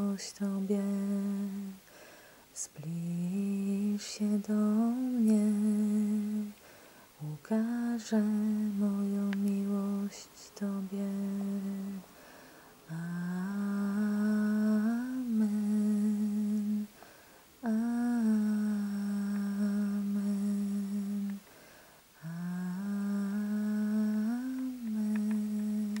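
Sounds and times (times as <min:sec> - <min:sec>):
person humming a melody: 0:00.0 - 0:01.8, 0:02.6 - 0:06.6, 0:07.2 - 0:12.1, 0:12.9 - 0:17.0, 0:17.6 - 0:21.4, 0:22.2 - 0:26.0.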